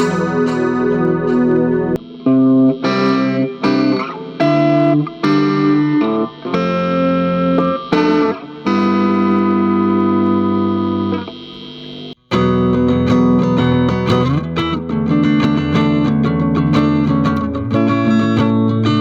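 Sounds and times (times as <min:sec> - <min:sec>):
electric guitar chords ringing: 0:00.0 - 0:19.0.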